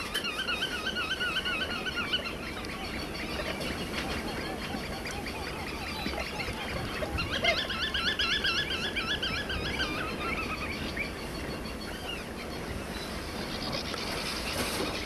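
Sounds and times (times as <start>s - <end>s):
bird calling fluty notes: 0.0s - 15.0s.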